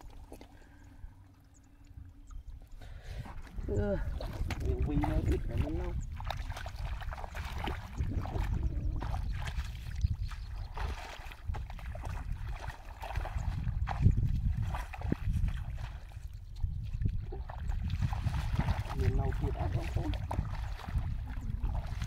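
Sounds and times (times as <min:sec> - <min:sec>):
bare feet squelching through mud: 0:03.2 - 0:22.0.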